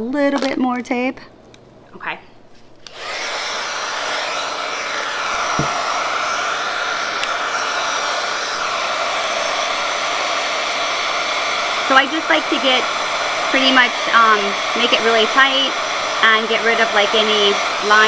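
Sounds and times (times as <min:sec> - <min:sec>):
heat gun blowing air: 0:02.8 - 0:18.0.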